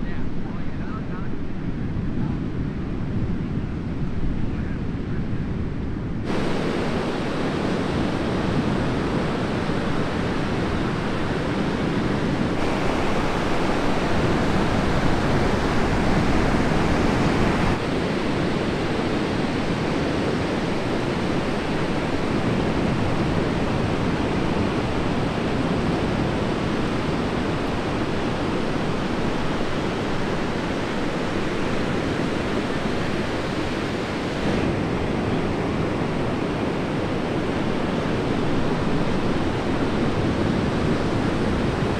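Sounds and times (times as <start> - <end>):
wind on microphone: 0.0 - 41.9
heavy ocean surf breaking: 6.2 - 41.9.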